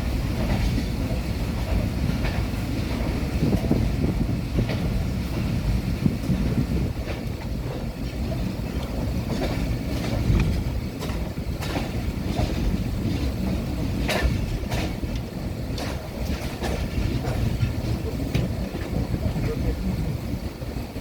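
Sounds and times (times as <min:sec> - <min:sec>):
train rumbling: 0:00.0 - 0:21.0
wheels clacking on rail joints: 0:00.0 - 0:21.0.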